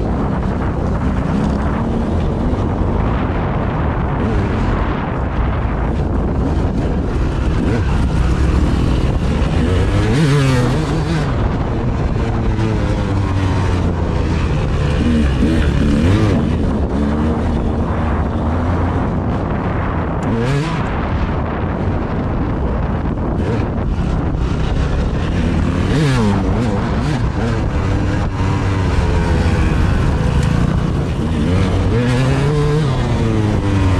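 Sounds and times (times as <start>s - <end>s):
vehicle engine revving: 0.0s - 33.9s
wind rumble on microphone: 0.0s - 33.9s.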